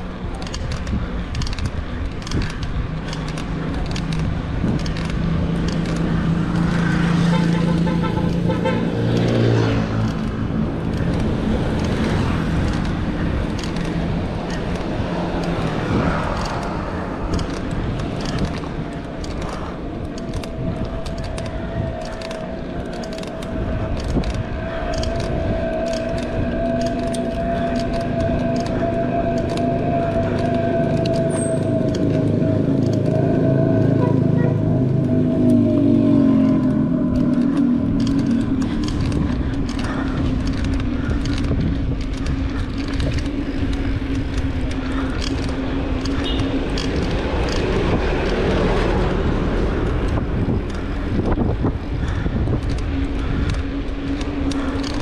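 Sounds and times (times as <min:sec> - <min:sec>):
low traffic rumble: 0:00.0 - 0:55.0
motor vehicles passing: 0:00.0 - 0:55.0
vehicle droning: 0:00.0 - 0:55.0.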